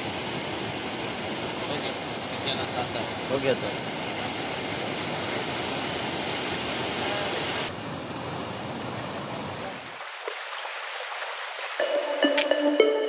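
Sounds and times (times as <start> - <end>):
river rushing over rapids: 0.0 - 12.7.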